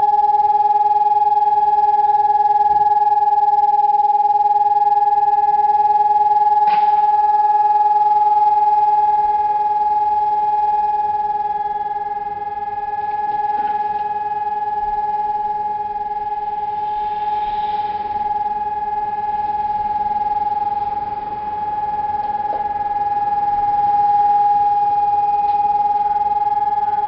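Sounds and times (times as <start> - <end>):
distant steady siren tone: 0.0 - 27.0.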